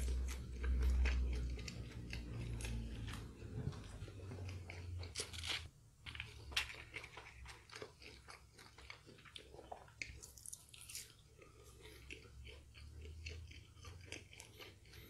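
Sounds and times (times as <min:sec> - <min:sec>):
crunchy chewing of fried chicken: 0:00.0 - 0:15.0.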